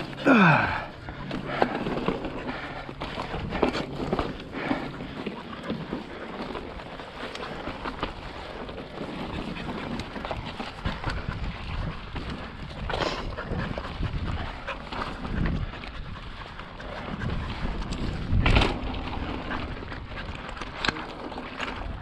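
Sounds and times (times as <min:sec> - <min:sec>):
bike rattles and clicks: 0:00.0 - 0:22.0
bike tyres rolling on rock: 0:00.0 - 0:22.0
wind buffeting microphone: 0:00.0 - 0:22.0.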